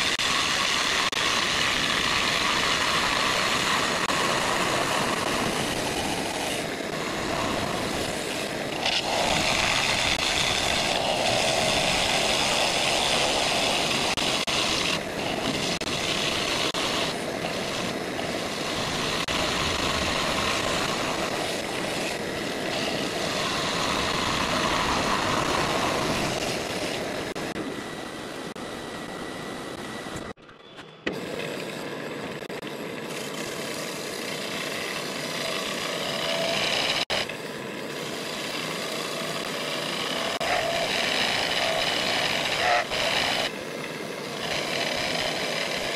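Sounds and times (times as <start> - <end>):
wood lathe gouge cutting: 0.0 - 27.6, 33.1 - 45.9.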